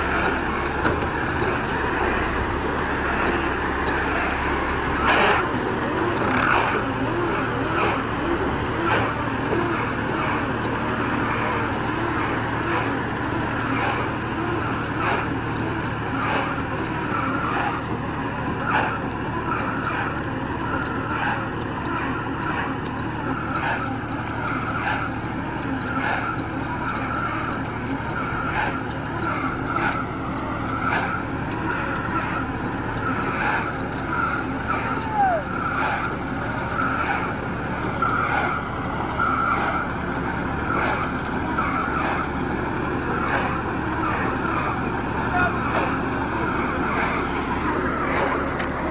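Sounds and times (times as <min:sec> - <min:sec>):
baler engine hum: 0:00.0 - 0:48.9
regular mechanical knock: 0:00.0 - 0:48.9.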